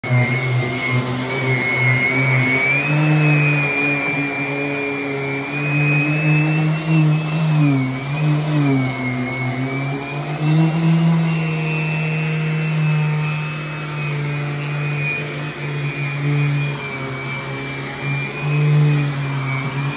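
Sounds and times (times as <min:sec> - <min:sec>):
orbital sander humming and whining: 0:00.0 - 0:19.9
vacuum dust extraction hose: 0:00.0 - 0:19.9.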